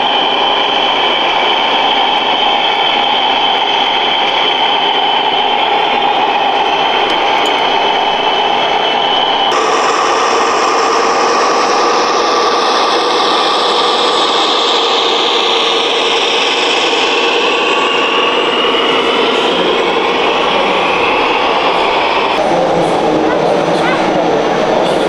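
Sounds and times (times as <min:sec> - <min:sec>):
model truck mechanical hiss and whine: 0:00.0 - 0:23.0.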